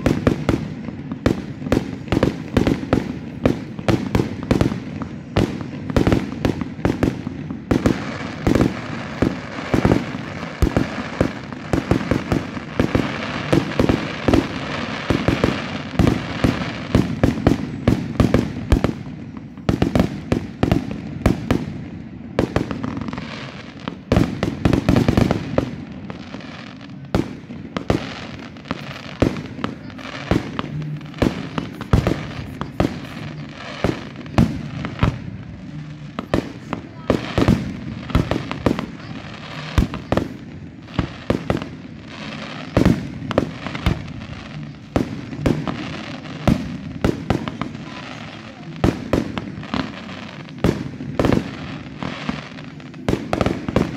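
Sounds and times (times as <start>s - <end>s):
crackling hiss: 0.0s - 53.9s
fireworks bangs: 0.0s - 53.9s.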